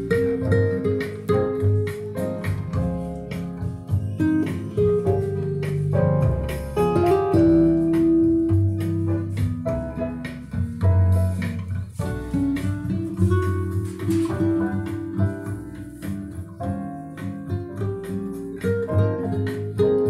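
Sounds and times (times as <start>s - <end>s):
guitar music through amplifier: 0.0s - 20.0s.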